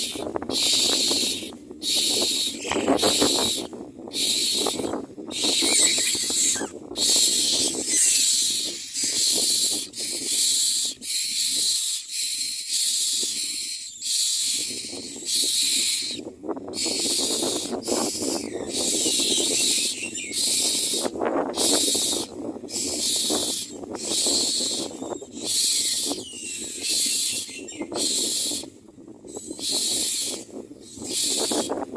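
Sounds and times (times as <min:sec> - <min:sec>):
nestlings begging with hissing rasps: 0:00.0 - 0:31.8.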